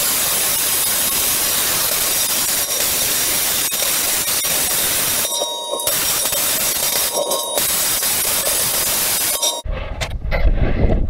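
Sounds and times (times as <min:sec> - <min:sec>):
plasma cutter hissing: 0:00.0 - 0:09.6.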